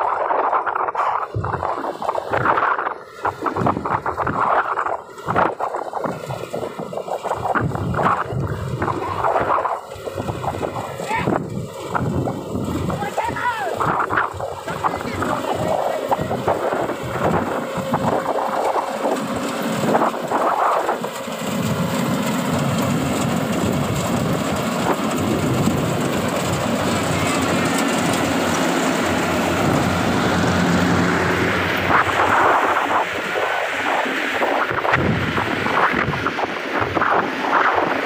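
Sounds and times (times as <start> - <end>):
combine harvester rumbling: 0.0 - 38.0.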